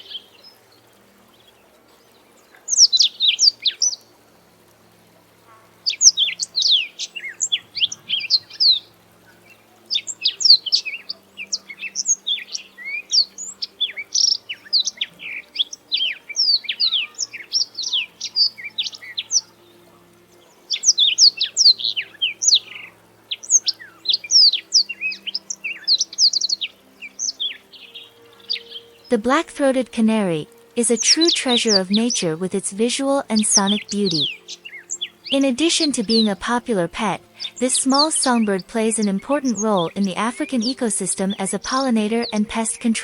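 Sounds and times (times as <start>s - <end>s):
canary singing: 0.0s - 1.0s, 5.9s - 43.0s.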